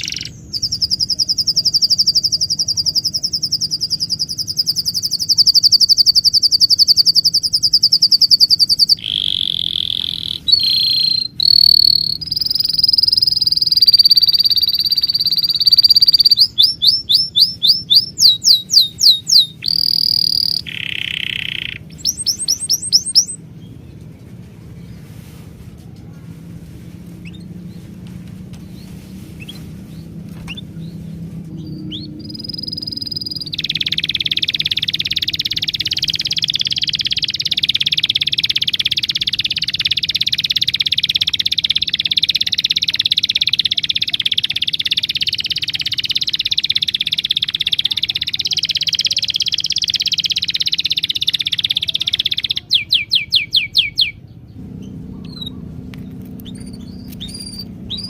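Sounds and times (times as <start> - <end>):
loud bird chirps: 0.0 - 24.0, 28.6 - 58.0
birds chirping in chorus: 0.0 - 25.6, 26.9 - 58.0.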